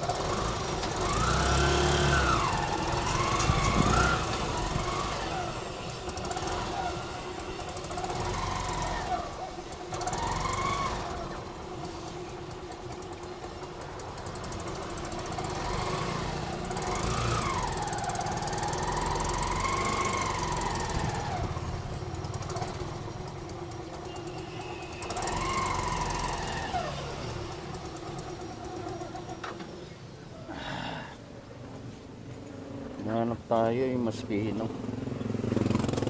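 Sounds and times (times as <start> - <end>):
low traffic rumble: 0.0 - 36.0
passing vehicle engines: 0.0 - 36.0.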